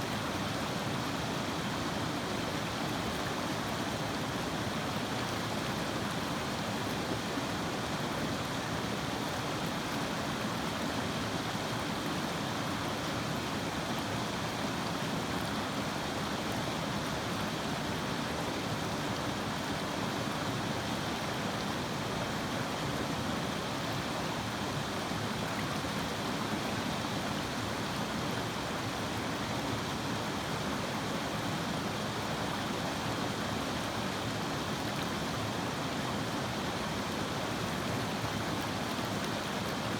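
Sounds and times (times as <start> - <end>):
river water flowing: 0.1 - 39.9.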